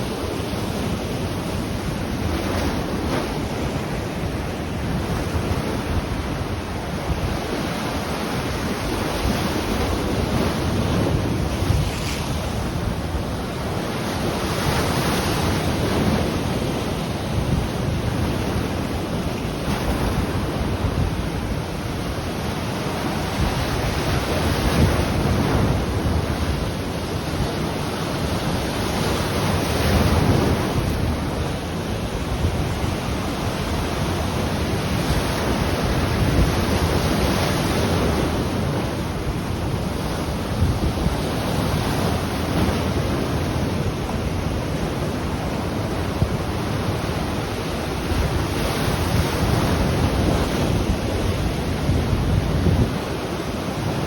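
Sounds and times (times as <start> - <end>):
ocean waves breaking on shore: 0.0 - 54.0
wind buffeting microphone: 0.0 - 54.0.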